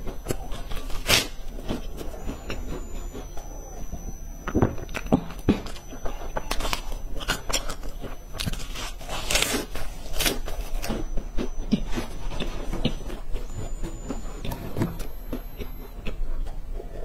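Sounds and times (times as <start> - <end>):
crunching and chewing snacks: 0.0 - 17.0.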